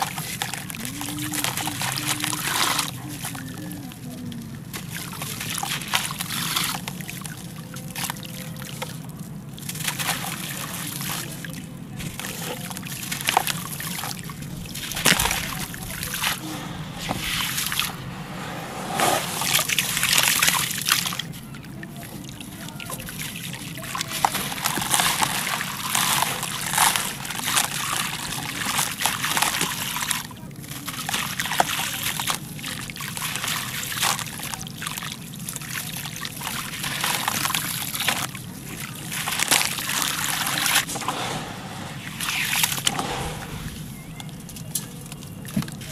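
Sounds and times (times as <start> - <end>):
grit pattering into water: 0.0 - 45.9.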